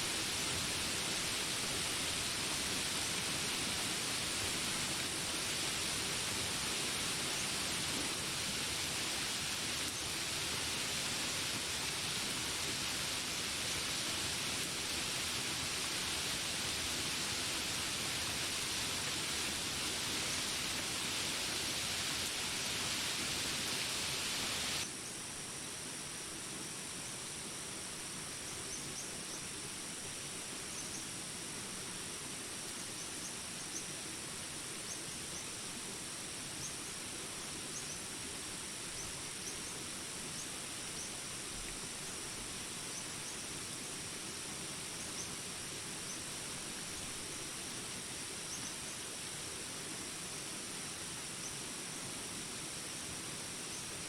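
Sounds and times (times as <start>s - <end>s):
rain hissing: 0.0s - 24.8s, 31.6s - 54.0s
insects droning: 0.0s - 54.0s.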